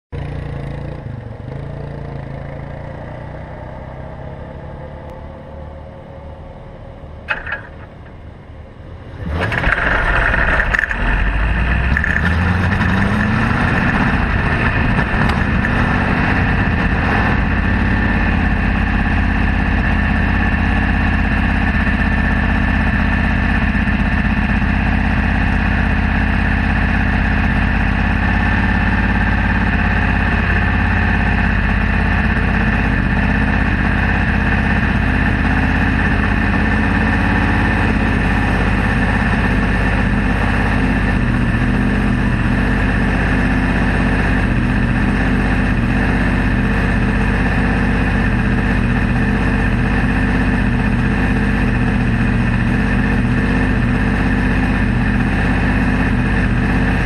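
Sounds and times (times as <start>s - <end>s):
car engine idling: 5.5s - 57.0s.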